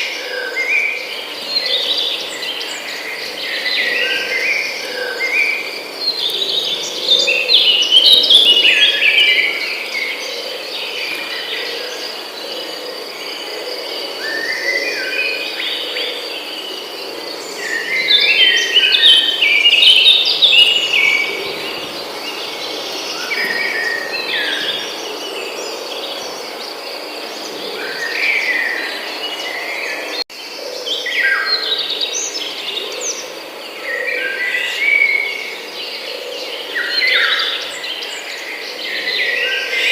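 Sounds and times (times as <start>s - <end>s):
crickets trilling: 0.0s - 39.9s
songbirds chirping: 0.0s - 39.9s.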